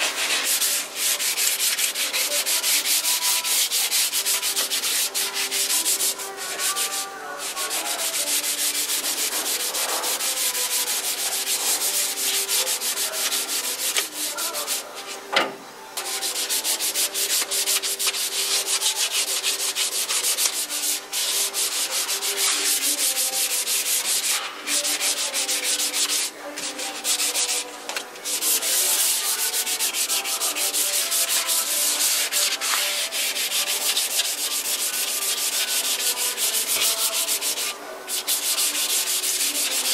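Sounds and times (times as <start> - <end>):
abrasive pad sanding metal: 0.0 - 14.9, 16.0 - 39.9.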